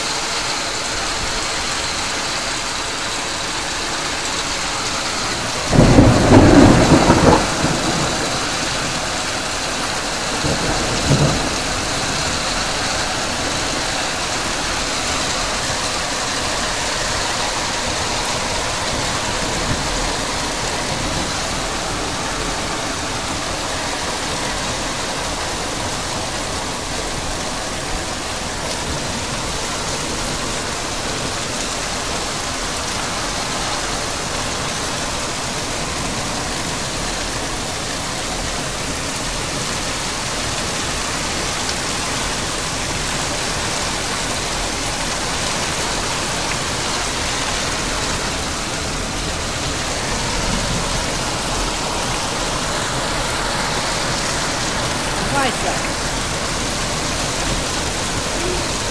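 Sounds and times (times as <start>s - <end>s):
heavy rain on metal roofs: 0.0s - 58.9s.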